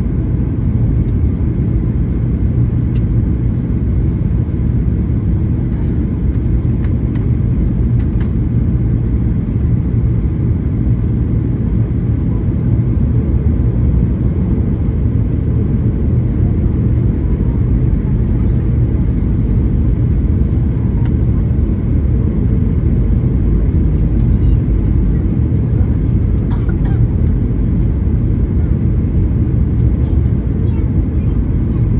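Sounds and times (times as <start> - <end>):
airliner cabin engine rumble: 0.0 - 31.9.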